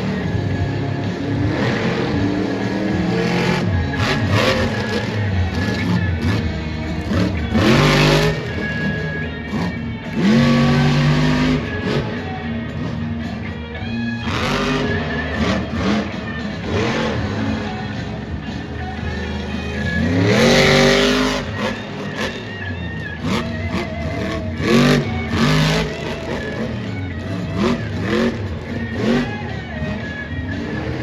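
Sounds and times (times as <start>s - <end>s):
loud music from speakers: 0.0s - 31.0s
monster truck engine revving: 0.0s - 31.0s.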